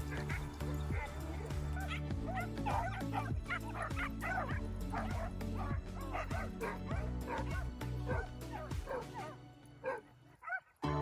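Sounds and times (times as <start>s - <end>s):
background music with bass: 0.0s - 10.2s
dogs barking and yipping: 0.0s - 10.8s.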